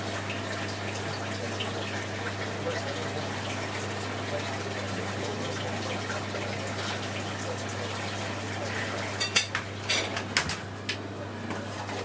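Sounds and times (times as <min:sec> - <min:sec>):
washing machine hum: 0:00.0 - 0:12.0.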